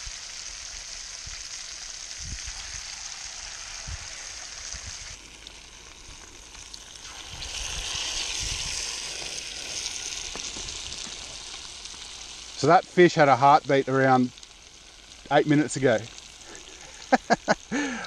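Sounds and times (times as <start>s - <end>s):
battered fish frying in oil: 0.0s - 18.0s.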